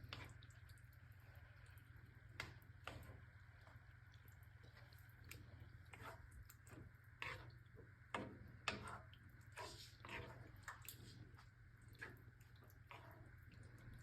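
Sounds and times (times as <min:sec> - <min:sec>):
low steady hum: 0:00.0 - 0:14.0
spoon stirring thick sauce: 0:00.0 - 0:14.0.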